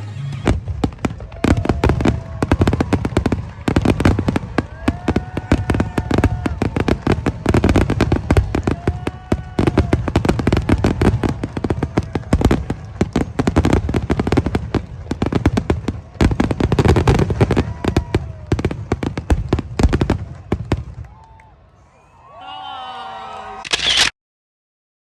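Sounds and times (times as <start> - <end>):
fireworks bangs and crackling: 0.0 - 21.4.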